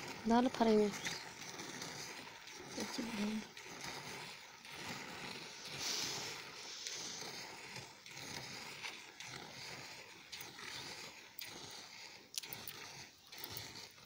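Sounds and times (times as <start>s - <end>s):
milk squirting into steel pot: 0.0s - 14.0s.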